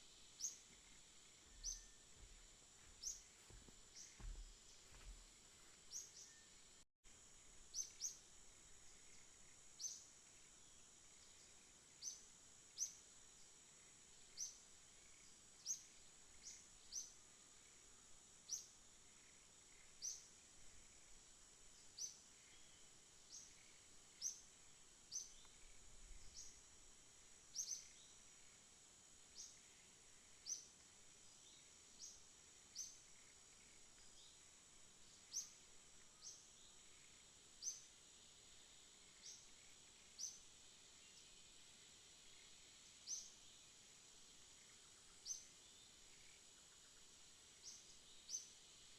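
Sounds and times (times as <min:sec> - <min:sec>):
high insect drone: 0:00.0 - 0:48.9.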